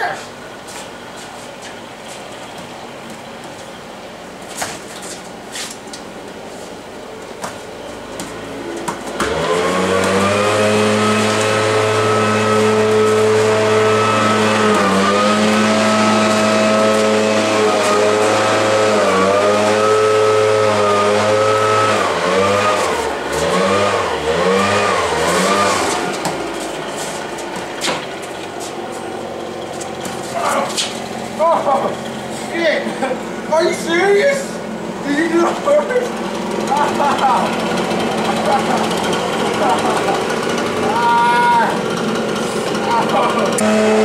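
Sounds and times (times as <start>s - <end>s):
leaf blower running and revving: 8.1s - 44.0s.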